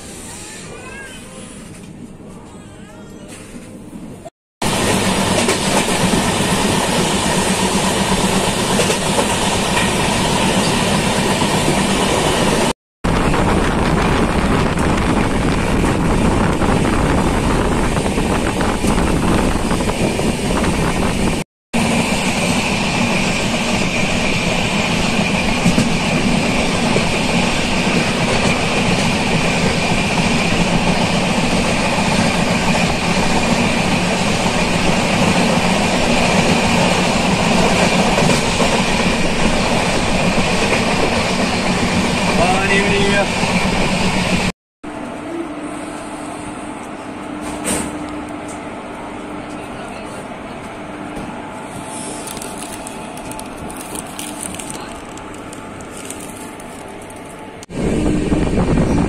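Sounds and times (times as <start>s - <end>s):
train wheels rumbling on rails: 3.3s - 45.5s, 49.4s - 59.0s.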